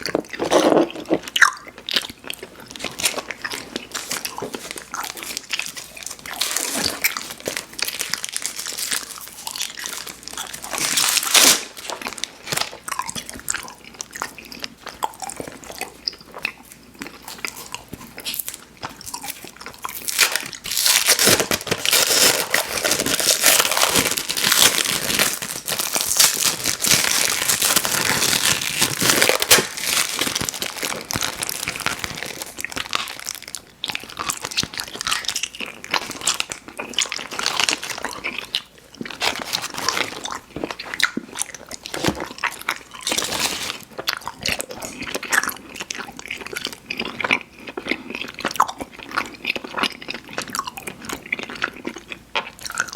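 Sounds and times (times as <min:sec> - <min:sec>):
chewing sticky candy: 0:00.0 - 0:52.9.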